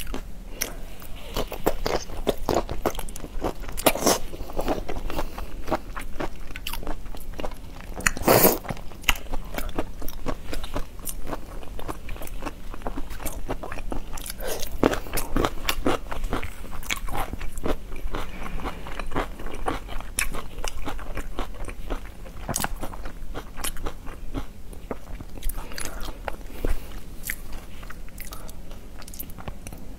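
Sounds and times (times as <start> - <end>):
crunchy chewing: 0.0 - 29.8.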